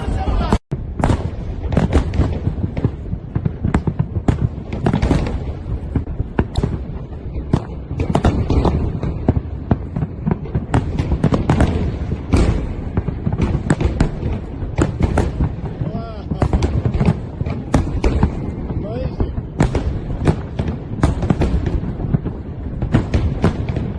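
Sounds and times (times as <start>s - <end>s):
deep rolling booms: 0.0s - 23.9s
fireworks cracks and bangs: 0.0s - 23.9s.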